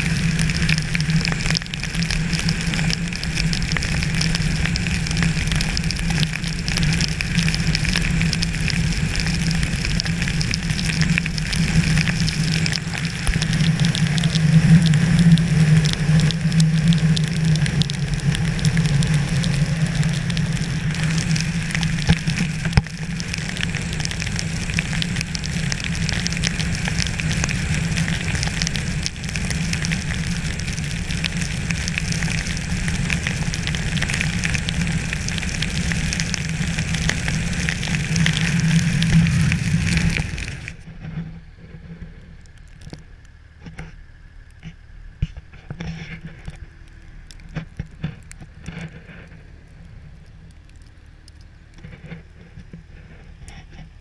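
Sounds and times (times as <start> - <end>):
low hum: 0.0 - 54.0
rain pattering: 0.0 - 54.0.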